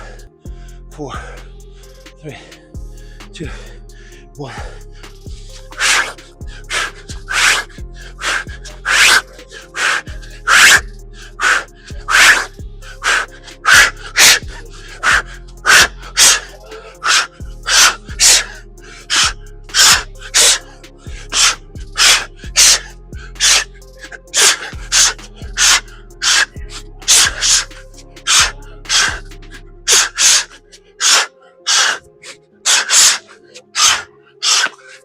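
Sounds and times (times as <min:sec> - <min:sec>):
background music: 0:00.0 - 0:35.0.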